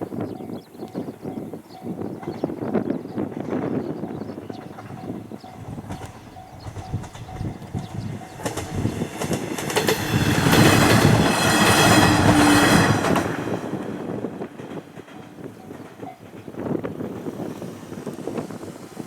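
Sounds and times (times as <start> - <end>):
train wheels clattering over rail joints: 2.0 - 19.0.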